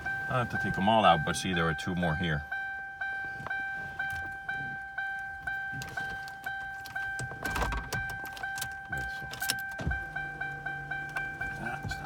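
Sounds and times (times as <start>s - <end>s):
car warning chime: 0.0s - 12.0s.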